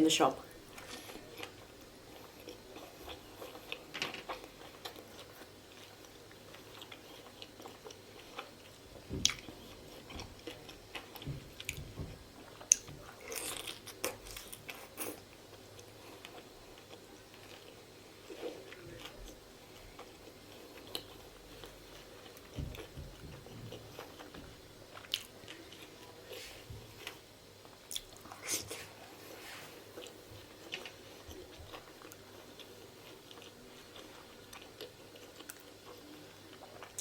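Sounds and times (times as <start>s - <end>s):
person chewing and mouth smacks: 0.5s - 29.2s, 29.9s - 37.0s.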